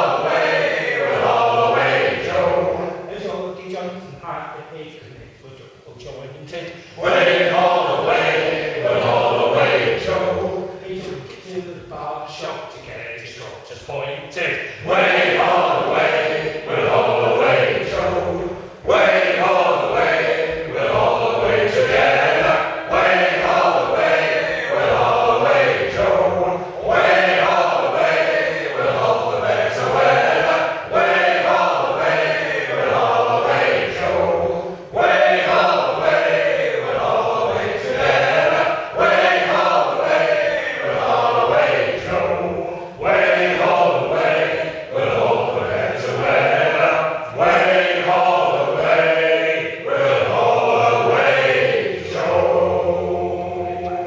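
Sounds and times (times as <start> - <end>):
men singing unaccompanied: 0.0 - 3.5, 7.0 - 11.4, 14.8 - 54.0.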